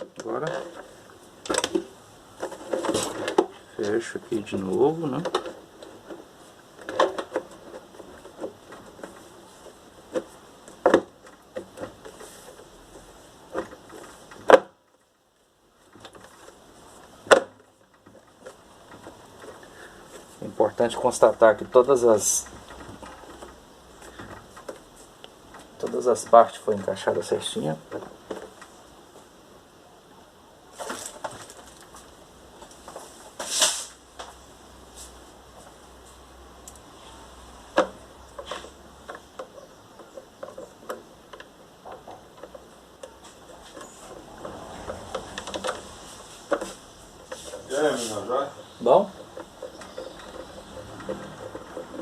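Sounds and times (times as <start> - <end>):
scraping rustling handling sounds: 0.0 - 29.4, 30.7 - 52.0.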